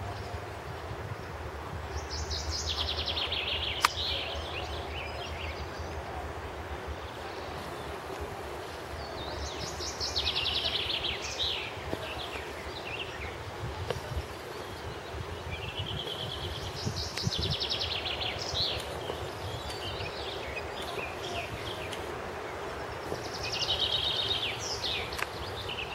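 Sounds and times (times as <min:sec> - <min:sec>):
outdoor background hiss: 0:00.0 - 0:25.9
songbirds trilling: 0:00.0 - 0:25.9.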